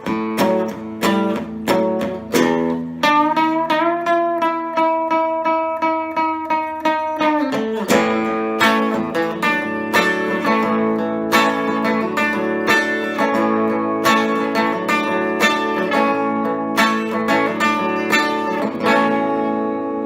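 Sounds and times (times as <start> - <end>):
electric guitar strumming chords: 0.0 - 20.0.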